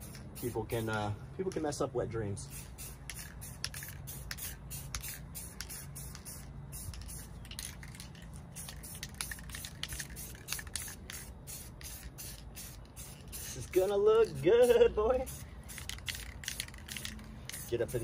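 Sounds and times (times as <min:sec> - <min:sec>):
spray paint can hissing: 0:00.0 - 0:01.7, 0:02.4 - 0:18.0.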